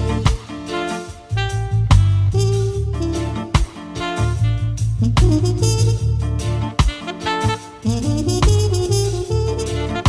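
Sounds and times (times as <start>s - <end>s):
deep electric bass line: 0.0s - 10.0s
jazz-funk band music: 0.0s - 10.0s.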